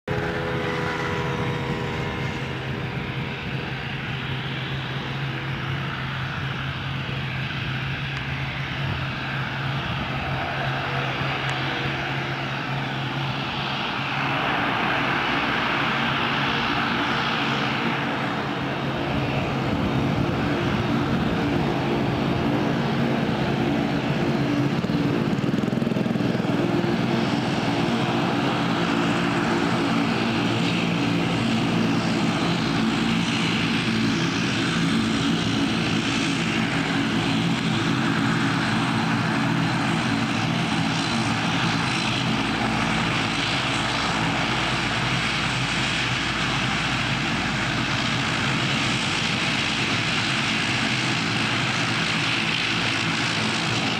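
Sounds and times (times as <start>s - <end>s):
propeller engine drone: 0.0s - 53.9s.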